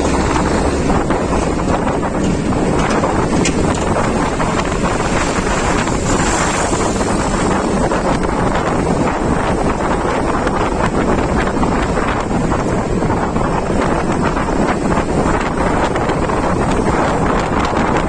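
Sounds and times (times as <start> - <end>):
vehicle road noise: 0.0 - 18.0
wind buffeting microphone: 0.0 - 18.0.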